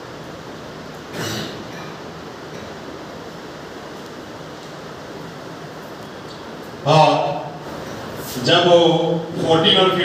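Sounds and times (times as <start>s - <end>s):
room background hiss: 0.0s - 10.0s.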